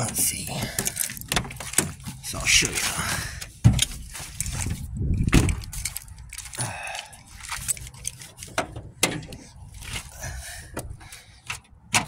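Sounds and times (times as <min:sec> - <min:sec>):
knocks and clicks of handling: 0:00.0 - 0:06.6, 0:07.3 - 0:10.1, 0:10.7 - 0:12.0.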